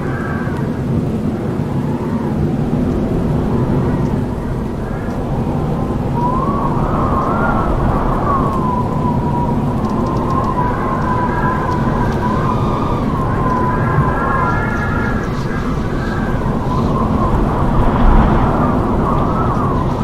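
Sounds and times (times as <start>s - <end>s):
howling wind: 0.0s - 20.0s.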